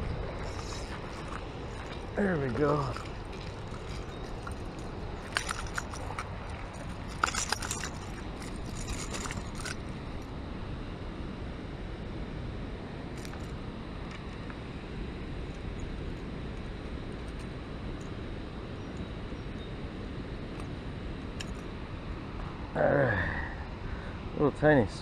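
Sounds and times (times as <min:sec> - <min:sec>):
rushing background noise: 0:00.0 - 0:25.0.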